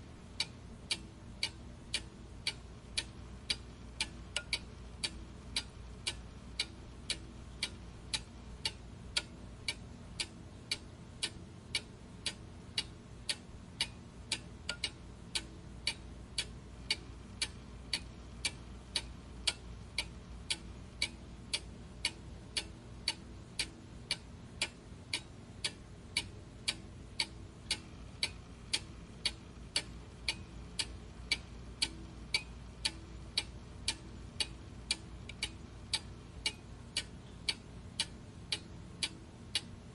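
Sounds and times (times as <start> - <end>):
faint low hum: 0.0 - 39.9
steady ticking: 0.0 - 39.9.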